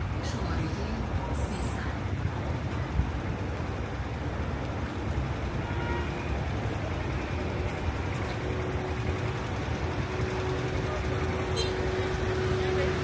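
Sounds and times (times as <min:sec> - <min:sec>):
cars idling and creeping past: 0:00.0 - 0:13.0.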